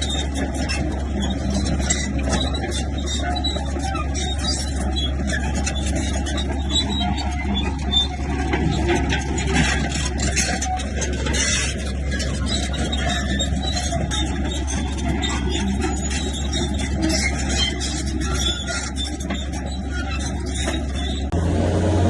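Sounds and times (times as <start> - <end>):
diesel engine under load: 0.0 - 22.0
rattling: 0.1 - 21.4.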